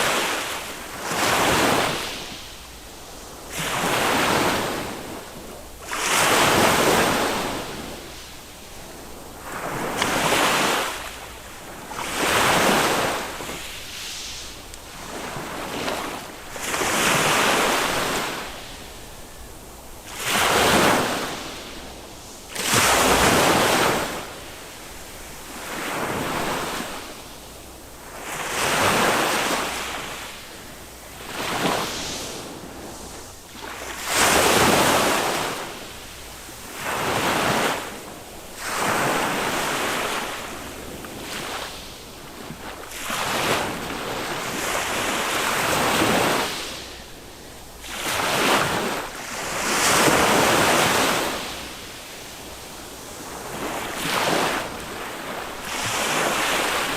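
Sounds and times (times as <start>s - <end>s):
small waves breaking on sand: 0.0s - 56.9s.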